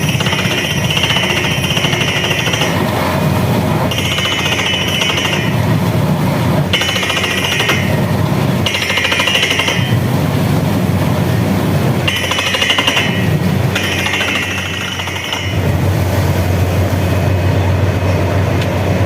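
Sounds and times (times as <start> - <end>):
drilling rig hammering: 0.0 - 16.4.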